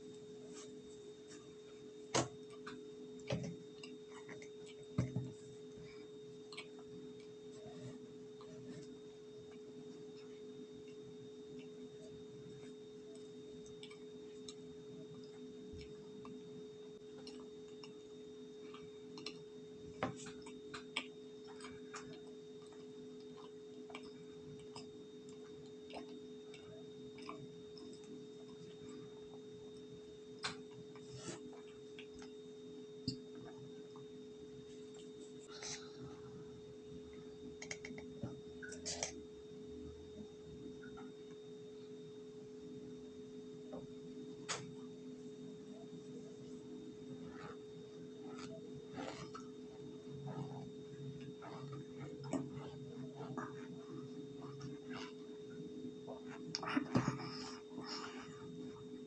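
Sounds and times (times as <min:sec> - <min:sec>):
electrical hum: 0:00.0 - 0:59.0.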